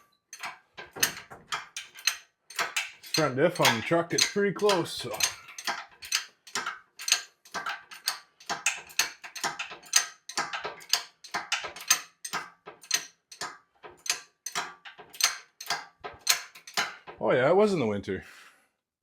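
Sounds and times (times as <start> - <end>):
metallic chain clanks: 0.0 - 17.2.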